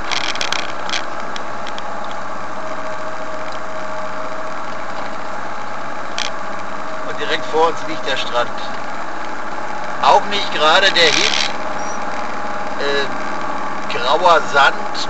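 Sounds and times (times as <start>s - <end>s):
motorhome engine running: 0.0s - 15.0s.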